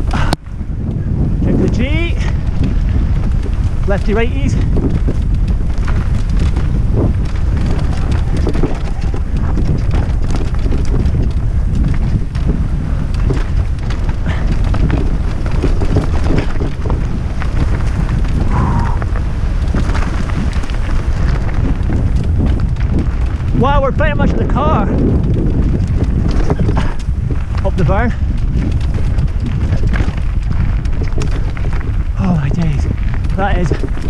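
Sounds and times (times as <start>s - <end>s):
bike clattering over bumps: 0.0s - 34.0s
tyres on rough dirt: 0.0s - 34.0s
wind noise on microphone: 0.0s - 34.0s.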